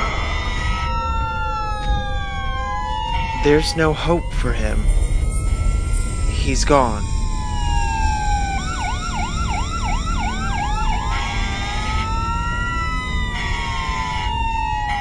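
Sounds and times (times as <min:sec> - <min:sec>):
low rumble: 0:00.0 - 0:14.1
siren wailing: 0:00.0 - 0:15.0
siren yelping: 0:00.0 - 0:15.0.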